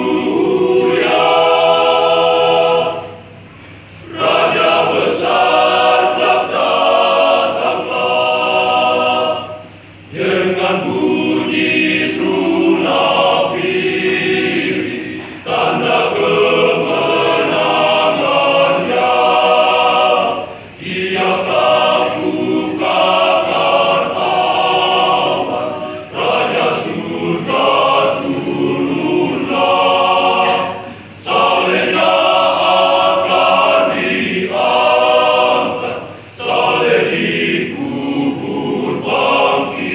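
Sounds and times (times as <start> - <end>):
men's choir singing: 0.0 - 39.9.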